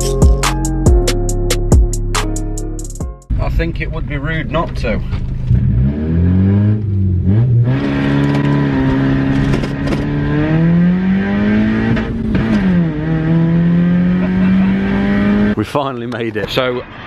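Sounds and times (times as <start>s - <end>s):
car engine and exhaust accelerating: 3.3s - 17.0s.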